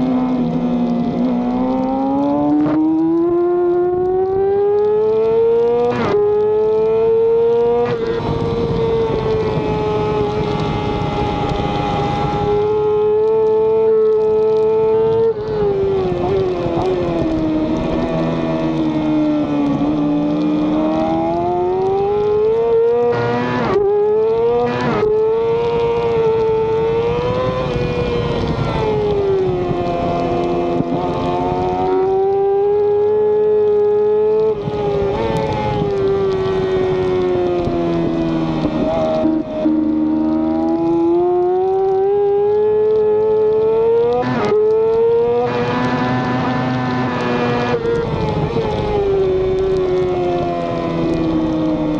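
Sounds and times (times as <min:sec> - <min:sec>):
wind noise: 0:00.0 - 0:51.9.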